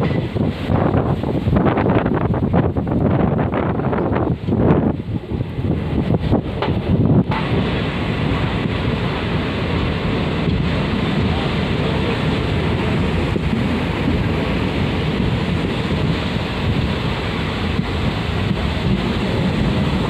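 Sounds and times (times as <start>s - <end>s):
train rumbling along track: 0.0s - 20.0s
wind buffeting microphone: 0.0s - 20.0s.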